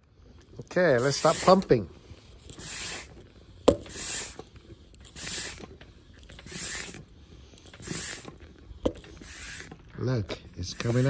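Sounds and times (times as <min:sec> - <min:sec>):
hand vacuum pump hissing: 0:00.3 - 0:11.0.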